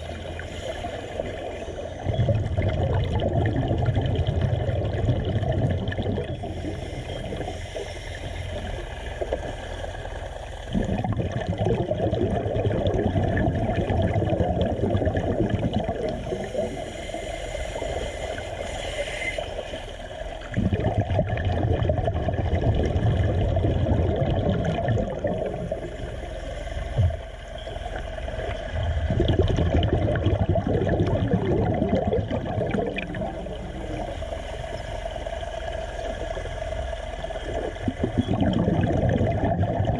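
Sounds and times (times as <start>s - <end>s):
steady mechanical hum: 0.0s - 39.9s
underwater air bubbling: 0.0s - 39.9s.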